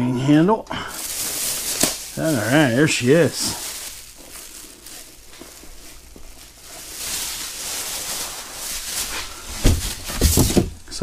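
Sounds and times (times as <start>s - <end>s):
plastic bag crinkling: 0.9s - 11.0s.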